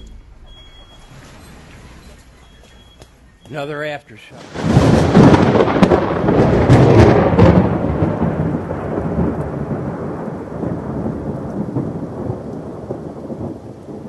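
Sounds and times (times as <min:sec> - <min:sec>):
deep earthquake rumble: 0:00.0 - 0:03.5, 0:04.4 - 0:14.0
crackling rattling noise: 0:00.0 - 0:14.0.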